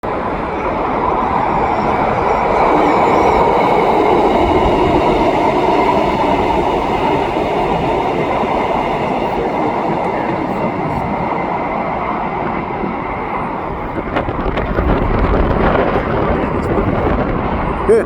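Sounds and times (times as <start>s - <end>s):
train wheels and motors rumbling: 0.0s - 18.0s.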